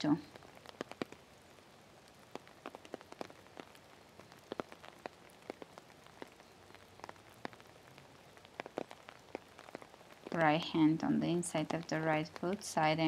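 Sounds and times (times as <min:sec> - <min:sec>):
light rain hiss: 0:00.0 - 0:13.0
raindrops ticking on surface: 0:00.0 - 0:13.0.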